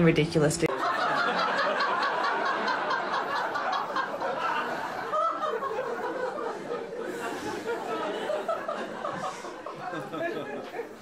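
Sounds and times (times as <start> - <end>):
crowd laughing: 0.7 - 11.0.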